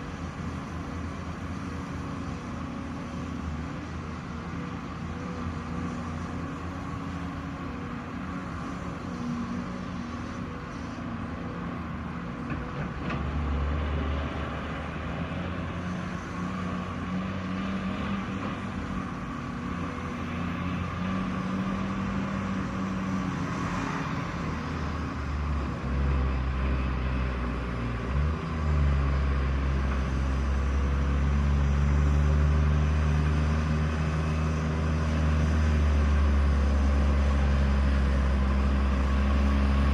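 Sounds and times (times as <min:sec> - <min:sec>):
heavy diesel engine rumbling: 0:00.0 - 0:39.9.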